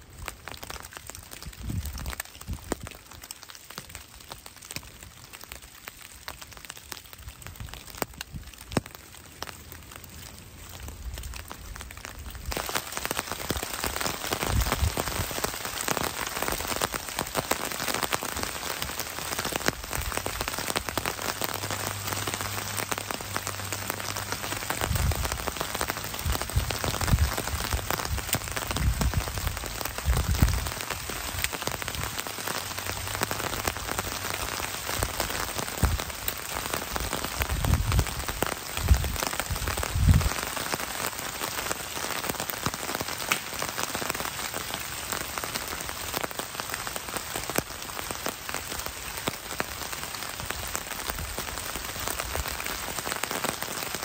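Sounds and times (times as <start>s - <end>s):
rain on leaf litter: 0.0s - 54.0s.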